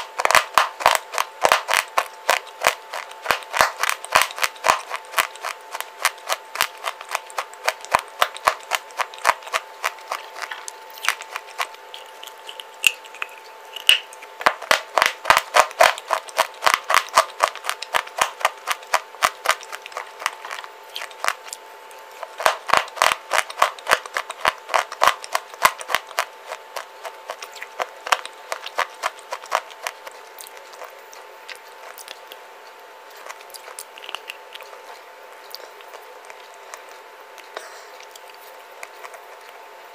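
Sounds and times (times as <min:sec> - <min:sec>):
clay crunched and chewed: 0:00.0 - 0:39.6.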